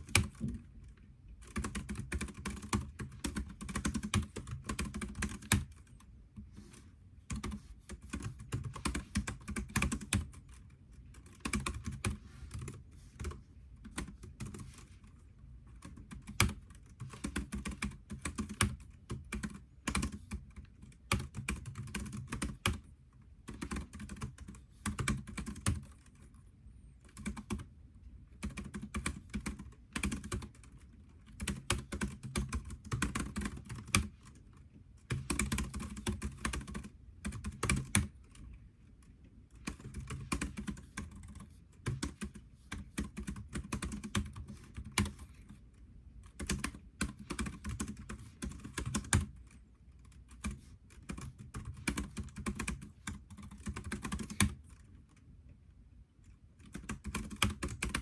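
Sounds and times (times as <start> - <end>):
typing on computer keyboard: 0.0 - 6.1, 7.3 - 26.3, 27.0 - 27.7, 28.3 - 45.6, 46.2 - 55.2, 56.6 - 58.0.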